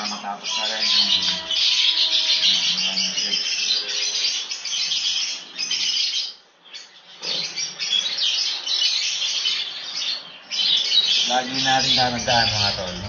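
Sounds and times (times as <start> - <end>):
birds chirping and chattering: 0.0 - 13.0.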